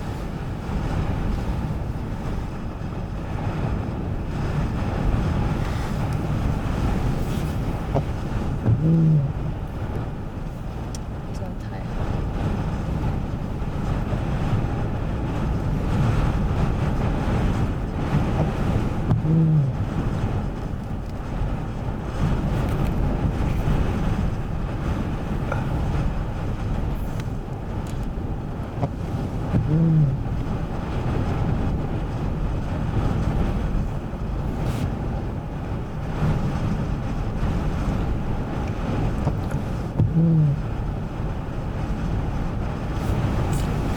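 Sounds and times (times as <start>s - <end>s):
wind rumbling on microphone: 0.0s - 43.9s.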